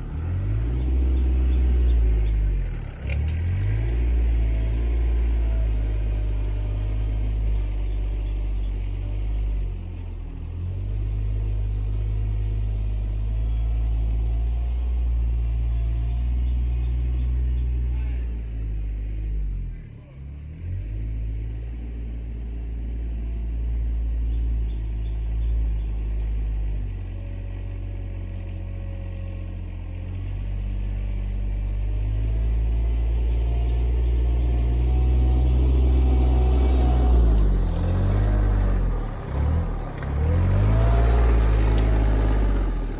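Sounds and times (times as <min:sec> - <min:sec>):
tractor engine under load: 0:00.0 - 0:18.2, 0:24.2 - 0:42.9.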